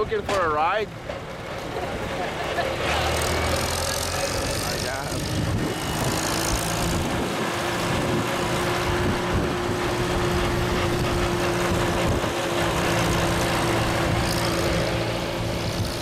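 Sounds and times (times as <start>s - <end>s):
road and wind noise: 0.0s - 16.0s
tractor engine humming: 0.0s - 16.0s.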